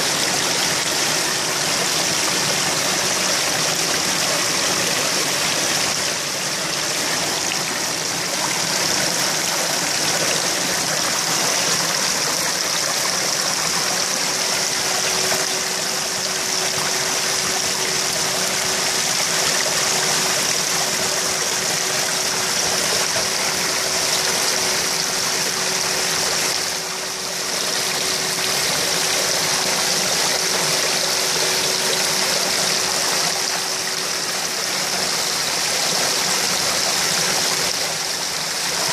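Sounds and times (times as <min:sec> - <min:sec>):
faint steady hum: 0:00.0 - 0:38.9
water splashing into pond: 0:00.0 - 0:38.9.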